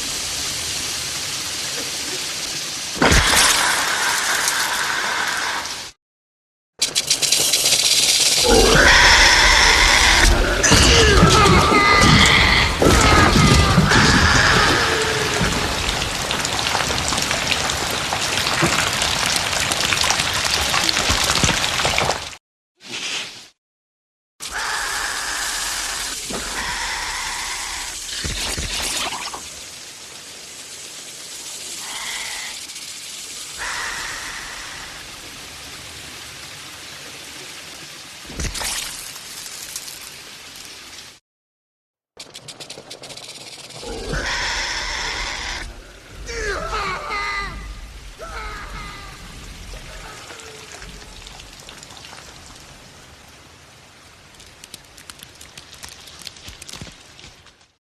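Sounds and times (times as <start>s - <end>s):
heavy rain pouring: 0.0s - 6.0s, 7.7s - 22.4s, 24.4s - 41.2s, 42.9s - 57.8s.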